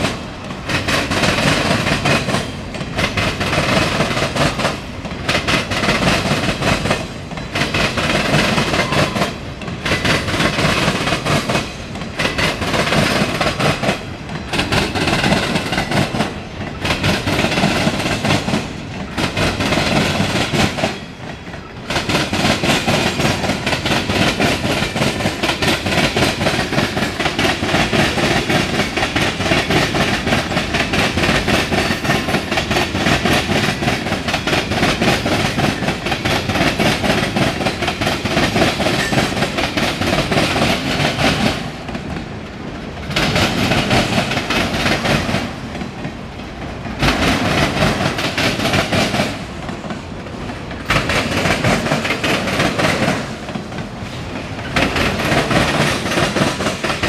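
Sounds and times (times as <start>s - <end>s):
train wheels clicking on rails: 0.0s - 57.0s.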